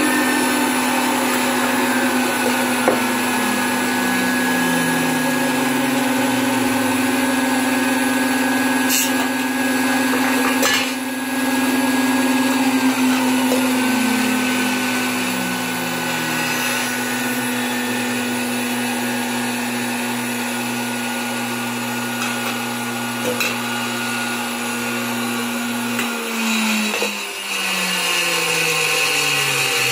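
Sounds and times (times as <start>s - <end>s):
milkshake mixer motor humming: 0.0s - 29.9s.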